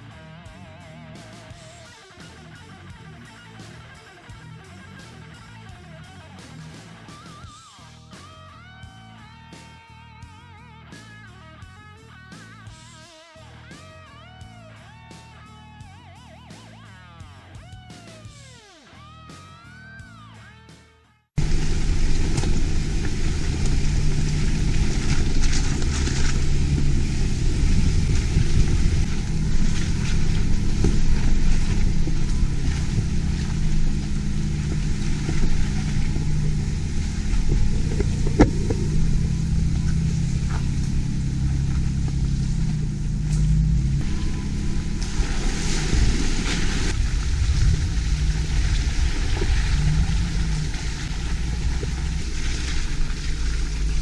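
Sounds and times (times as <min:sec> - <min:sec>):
off-road vehicle engine running: 0:00.0 - 0:18.4, 0:21.4 - 0:54.0.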